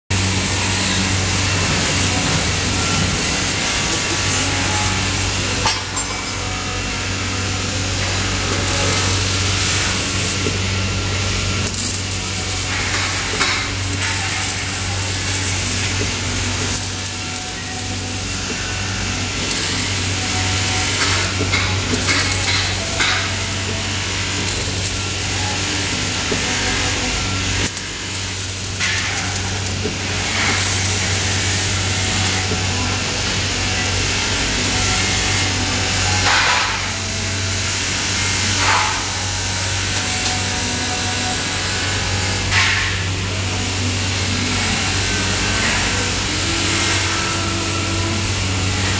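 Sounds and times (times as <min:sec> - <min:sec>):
welding arc crackling: 0:00.1 - 0:48.9.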